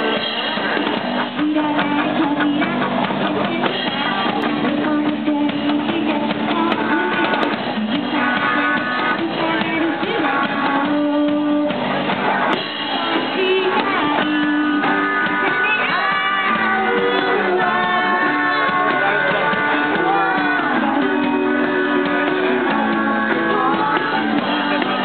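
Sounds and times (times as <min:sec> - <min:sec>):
drum kit: 0:00.0 - 0:25.0
guitar: 0:00.0 - 0:25.0
girl singing: 0:01.3 - 0:11.8, 0:12.8 - 0:25.0.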